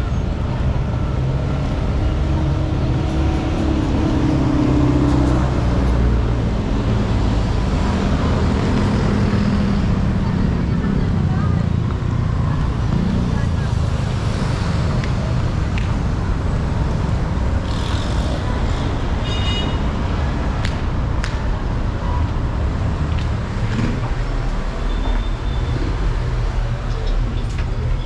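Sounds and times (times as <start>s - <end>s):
city road traffic rumble: 0.0s - 28.0s.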